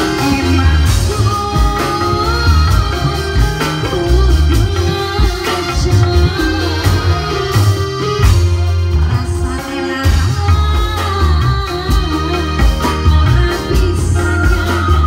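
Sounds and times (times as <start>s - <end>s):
amplified keyboard and drums: 0.0s - 15.0s
woman singing: 0.0s - 15.0s.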